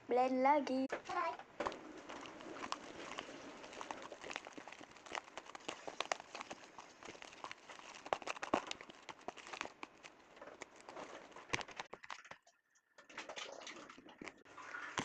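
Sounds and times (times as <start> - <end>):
wet sticky slime crackles: 1.2 - 12.4, 14.2 - 15.0.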